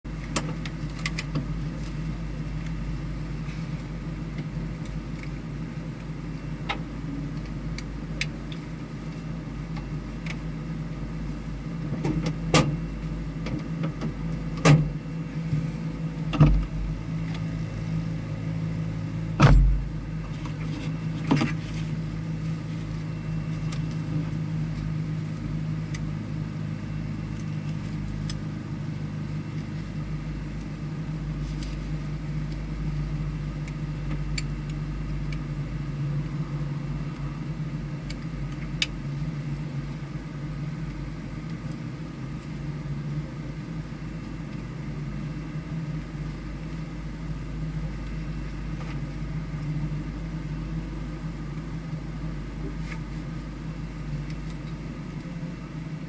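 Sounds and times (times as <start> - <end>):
vehicle engine idling: 0.1 - 56.0.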